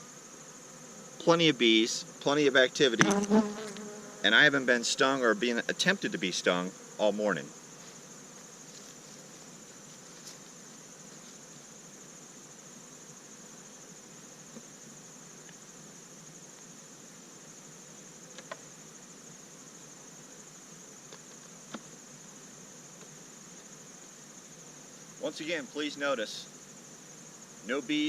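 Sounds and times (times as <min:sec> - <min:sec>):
honeybees humming: 0:00.0 - 0:28.0.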